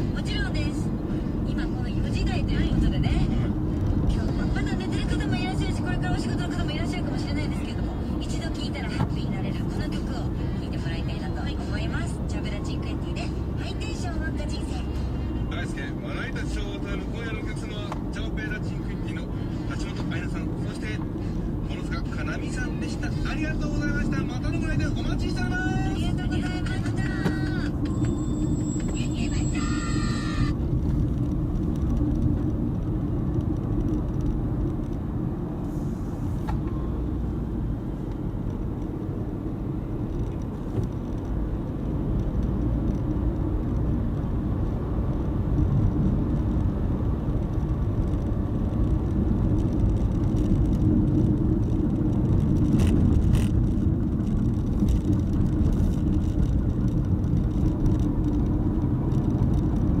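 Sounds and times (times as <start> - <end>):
engine and tyre rumble: 0.0 - 60.0.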